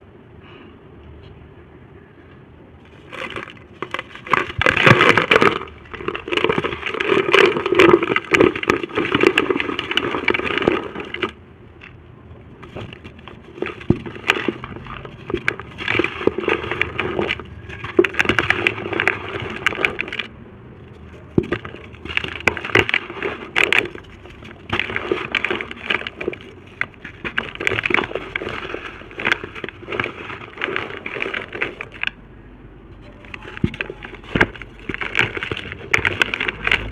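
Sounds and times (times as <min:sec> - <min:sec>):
dry brick dust crumbling: 0:02.8 - 0:36.9.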